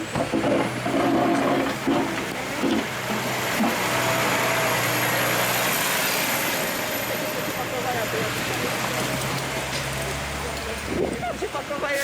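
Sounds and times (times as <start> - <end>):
truck engine running: 0.0 - 11.7.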